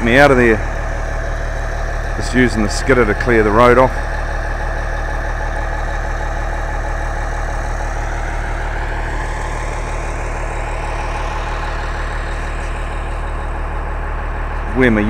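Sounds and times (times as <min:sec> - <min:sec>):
faint rising whine: 0:00.0 - 0:14.9
diesel engine running: 0:00.0 - 0:15.0.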